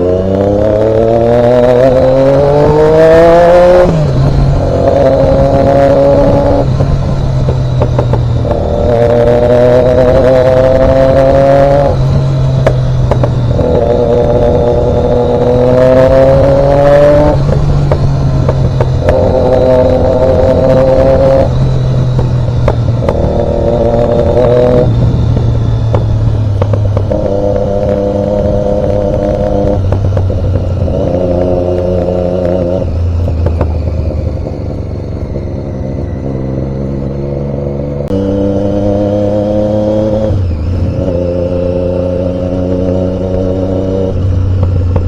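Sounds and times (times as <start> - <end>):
road rumble: 0.0 - 45.0
vehicle engine droning: 0.0 - 45.0.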